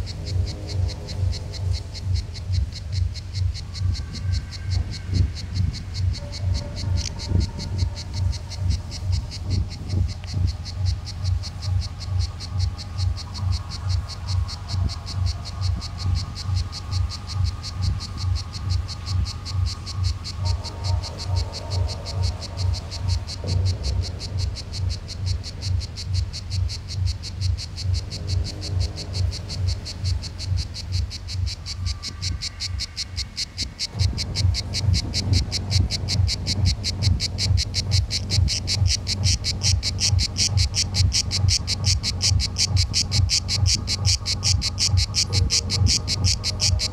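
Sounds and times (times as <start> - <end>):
cicada pulsing buzz: 0.0 - 46.9.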